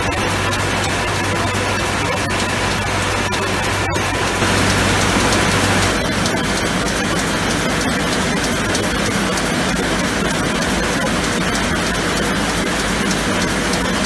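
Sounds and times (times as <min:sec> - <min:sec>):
faint rapid clicks: 0:00.0 - 0:14.0
machine rushing noise: 0:00.0 - 0:14.0.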